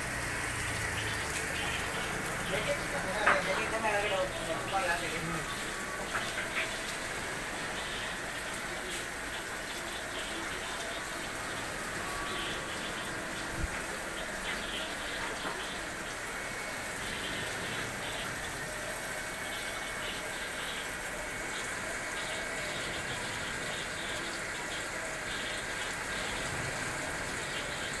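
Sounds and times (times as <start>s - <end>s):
running water in aquarium tanks: 0.0s - 28.0s.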